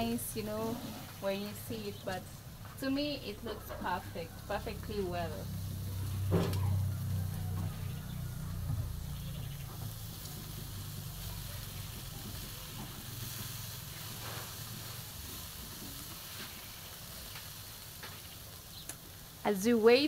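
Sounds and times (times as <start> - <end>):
meat sizzling on a grill: 0.0 - 20.0.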